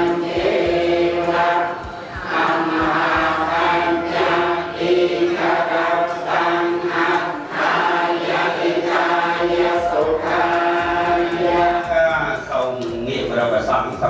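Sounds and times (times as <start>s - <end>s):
group chanting in unison: 0.0s - 12.9s.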